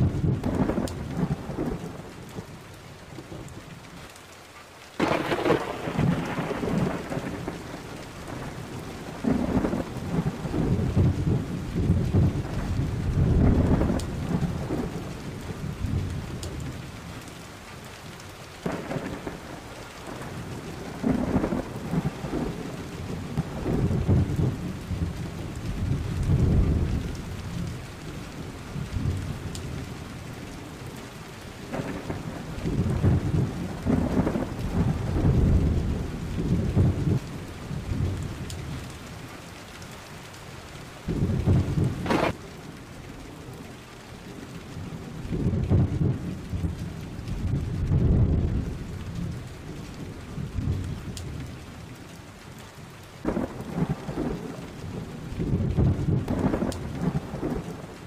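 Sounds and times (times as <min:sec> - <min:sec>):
thunder rumbling: 0:00.0 - 0:03.8, 0:05.0 - 0:17.2, 0:18.1 - 0:39.3, 0:41.0 - 0:51.9, 0:53.2 - 0:58.0
steady rain: 0:00.0 - 0:58.0.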